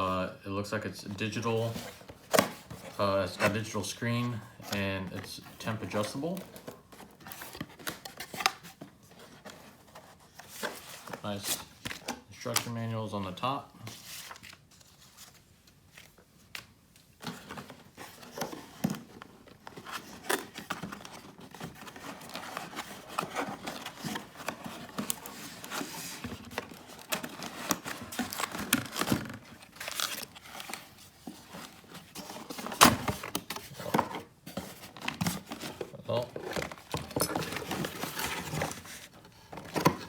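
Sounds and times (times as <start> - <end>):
paper and plastic crinkling: 1.2 - 40.0.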